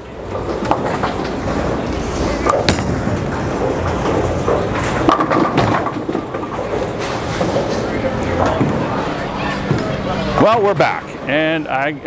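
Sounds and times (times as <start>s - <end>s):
bowling balls rolling rumble: 0.0s - 11.2s.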